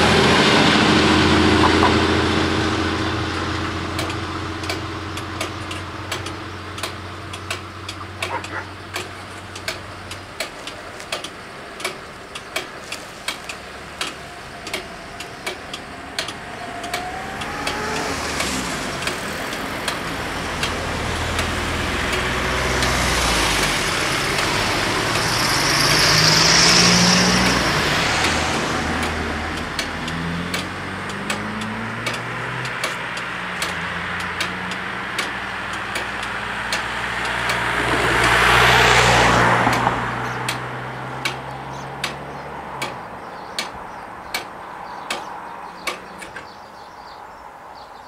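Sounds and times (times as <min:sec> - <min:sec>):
car engines humming: 0:00.0 - 0:48.0
car passing close: 0:00.0 - 0:48.0
regular clicking: 0:03.9 - 0:23.0, 0:23.6 - 0:46.6.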